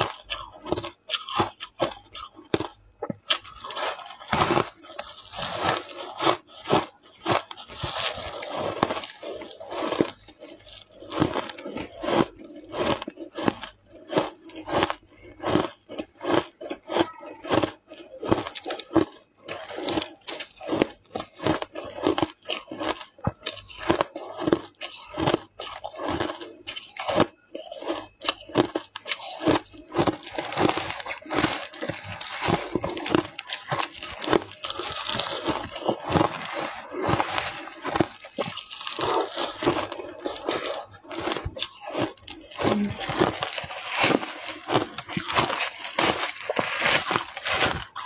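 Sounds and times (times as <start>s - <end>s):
ice being chewed crunching: 0.0s - 48.0s.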